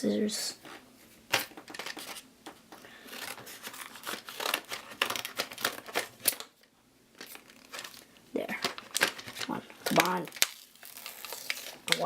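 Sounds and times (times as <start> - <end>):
plastic packaging crinkling: 1.3 - 2.2, 3.1 - 12.0.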